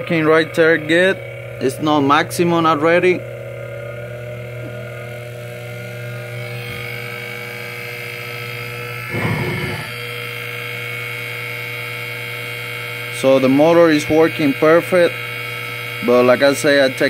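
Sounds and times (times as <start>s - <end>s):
electric motor hum: 0.0s - 17.0s.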